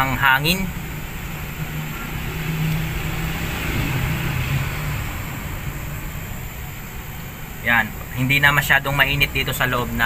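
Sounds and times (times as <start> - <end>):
low motor hum: 0.0 - 8.2
fan whirring air: 0.0 - 10.0.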